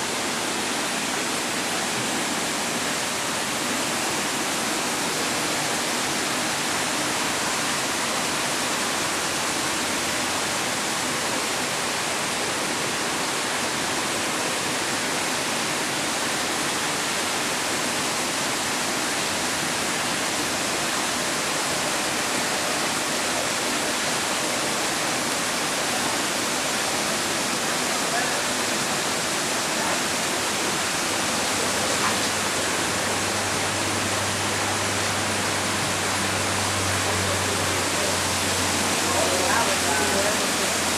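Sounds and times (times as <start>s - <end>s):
falling water rushing: 0.0s - 40.9s.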